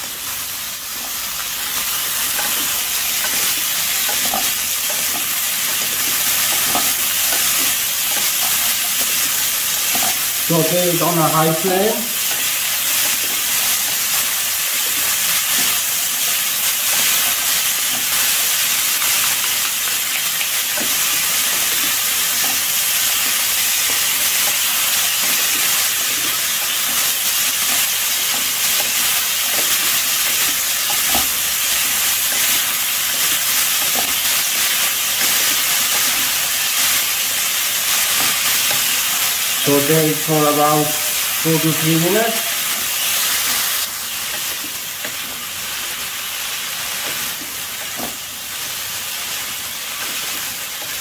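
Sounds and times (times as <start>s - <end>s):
food sizzling in a wok: 0.0s - 51.0s.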